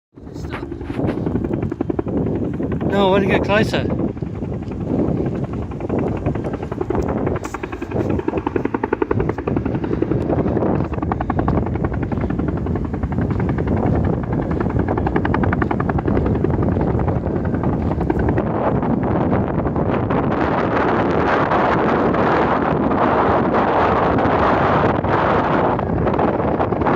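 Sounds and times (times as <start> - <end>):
helicopter rotor blades chopping: 0.2 - 26.9.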